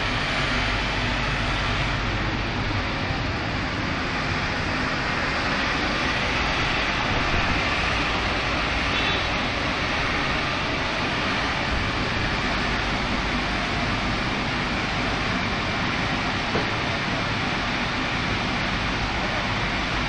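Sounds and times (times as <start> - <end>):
car wash machinery rushing: 0.0 - 20.0.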